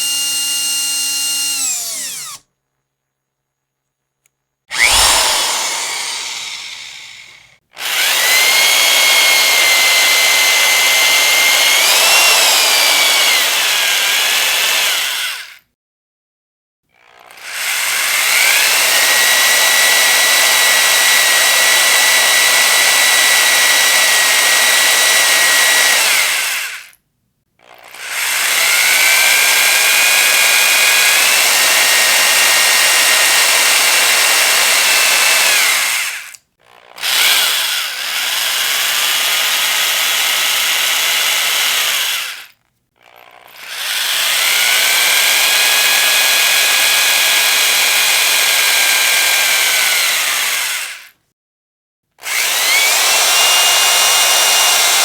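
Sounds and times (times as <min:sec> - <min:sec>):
electric power drill whining: 0:00.0 - 0:02.4, 0:04.7 - 0:15.6, 0:17.3 - 0:27.0, 0:27.7 - 0:36.4, 0:37.0 - 0:51.1, 0:52.2 - 0:55.0.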